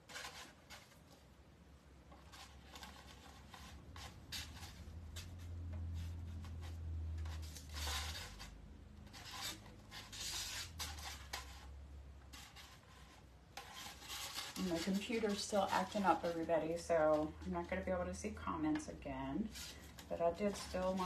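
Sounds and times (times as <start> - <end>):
pipe cleaners rubbing against wire: 0.0 - 1.2, 2.1 - 21.0.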